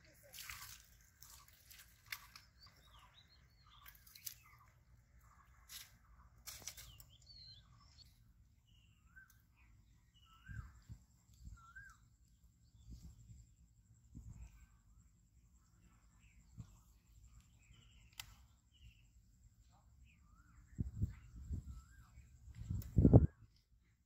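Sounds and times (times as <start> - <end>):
small bird chirps: 0.2 - 13.4, 15.6 - 23.6.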